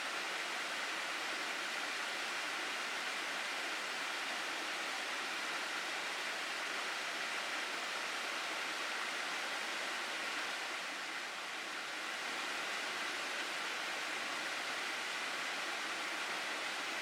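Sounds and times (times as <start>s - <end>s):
stream water rushing: 0.1s - 17.0s.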